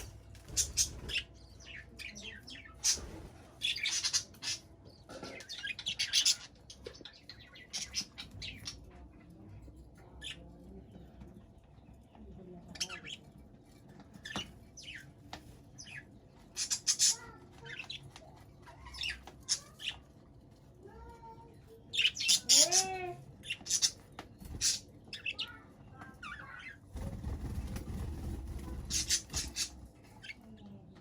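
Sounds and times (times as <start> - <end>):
budgerigars chirping and squawking: 0.0 - 9.1, 12.5 - 20.0, 21.7 - 30.8.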